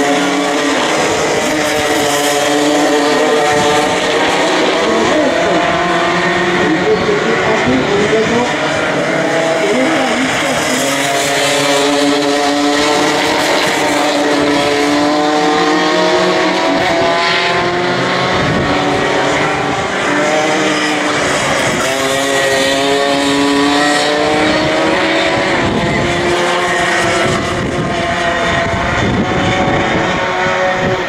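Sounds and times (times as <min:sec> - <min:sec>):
racing kart engines: 0:00.0 - 0:31.0.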